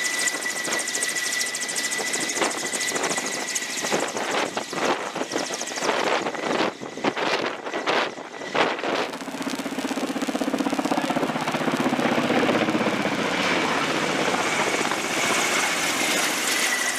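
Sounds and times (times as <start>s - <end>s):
helicopter rotor and engine: 0.0s - 16.9s.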